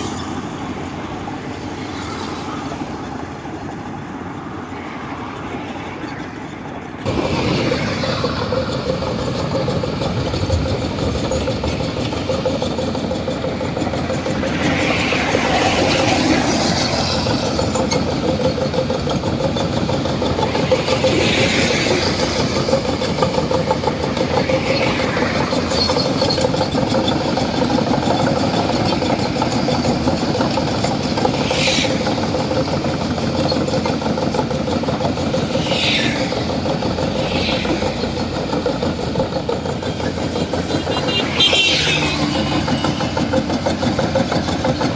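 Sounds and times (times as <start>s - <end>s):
excavator diesel engine running: 0.0s - 44.9s
high-pitched squeals: 2.4s - 44.9s.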